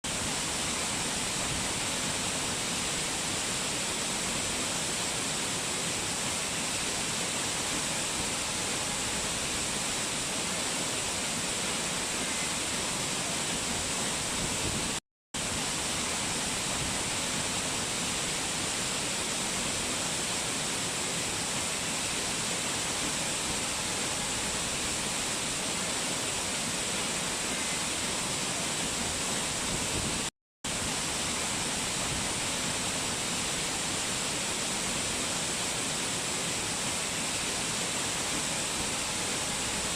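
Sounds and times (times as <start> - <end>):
waterfall rushing water: 0.1 - 39.9.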